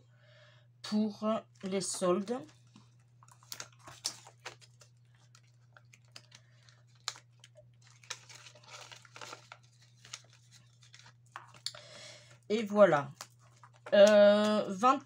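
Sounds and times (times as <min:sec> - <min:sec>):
plastic sleeves and paper rustling: 0:01.4 - 0:15.0.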